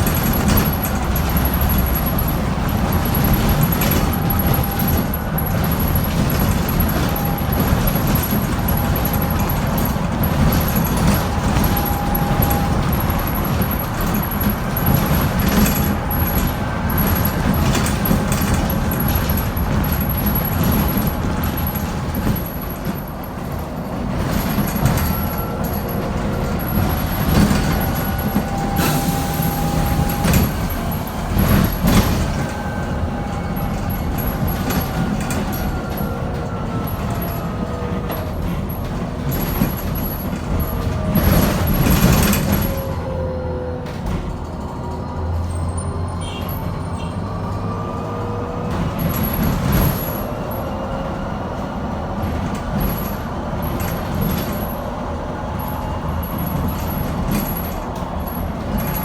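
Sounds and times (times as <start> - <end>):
bus body knocks and rattles: 0.0 - 59.0
road rumble: 0.0 - 59.0.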